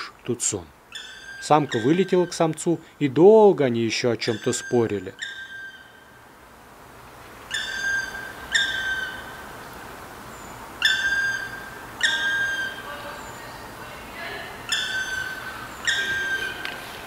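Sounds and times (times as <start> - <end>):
woodpeckers calling: 0.0 - 6.4, 7.2 - 17.0.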